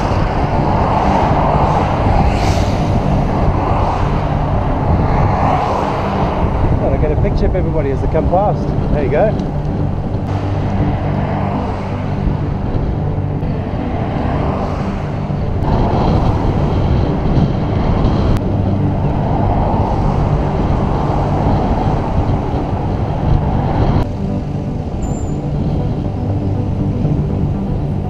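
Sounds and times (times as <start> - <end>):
bicycle road noise: 0.0 - 28.0
low hum: 0.0 - 28.0
wind rumble on microphone: 0.0 - 28.0.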